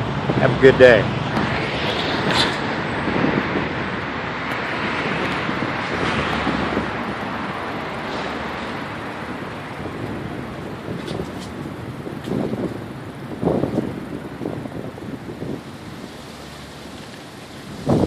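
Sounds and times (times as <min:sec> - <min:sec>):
street traffic: 0:00.0 - 0:18.0
wind rushing: 0:00.0 - 0:18.0.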